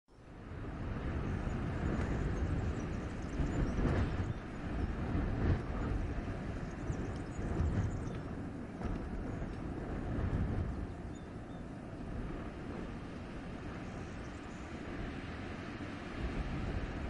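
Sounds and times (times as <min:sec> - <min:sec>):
wind gusting through forest: 0:00.1 - 0:17.0.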